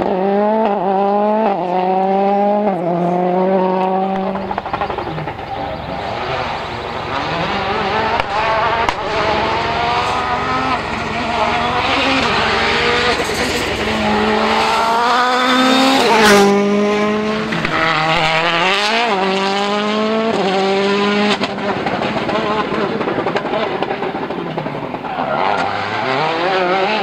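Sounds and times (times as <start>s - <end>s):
rally car engine accelerating: 0.0s - 27.0s.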